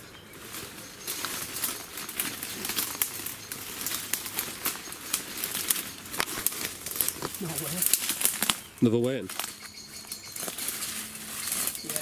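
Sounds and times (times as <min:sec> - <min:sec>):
footsteps crunching over debris: 0:00.0 - 0:12.0.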